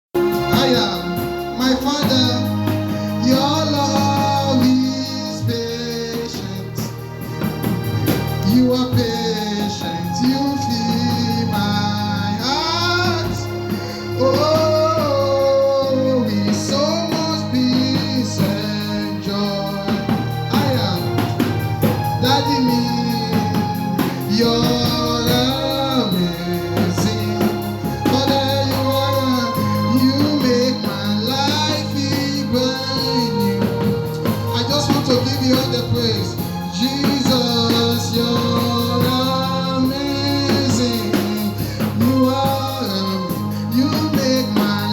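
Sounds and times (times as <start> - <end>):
worship song with vocals: 0.0 - 44.9.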